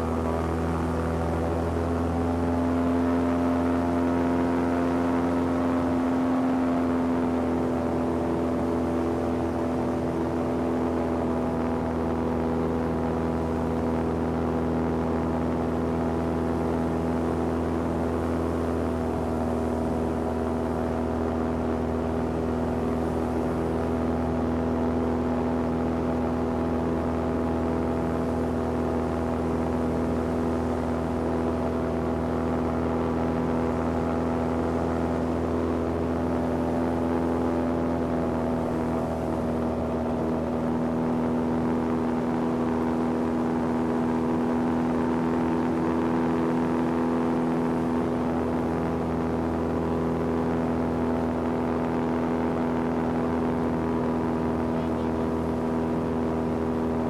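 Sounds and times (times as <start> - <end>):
airboat engine humming: 0.0 - 57.0.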